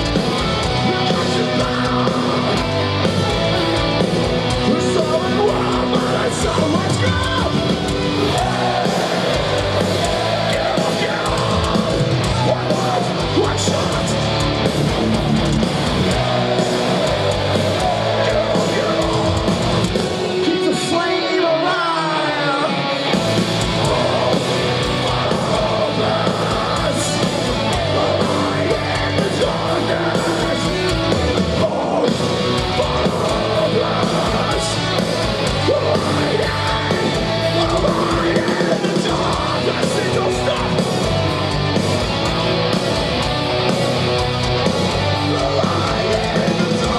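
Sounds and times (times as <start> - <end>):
distorted electric guitars: 0.0 - 46.9
drums: 0.0 - 46.9
shouted vocals: 0.0 - 46.9.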